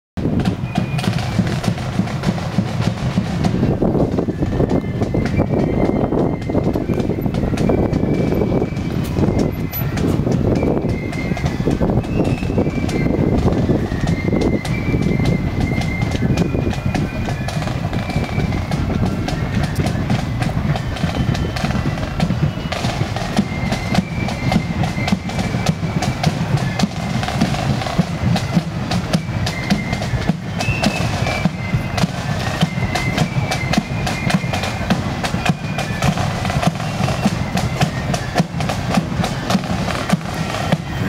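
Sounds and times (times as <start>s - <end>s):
marching band drumbeats: 0.2s - 41.0s
high melody line: 0.4s - 41.0s.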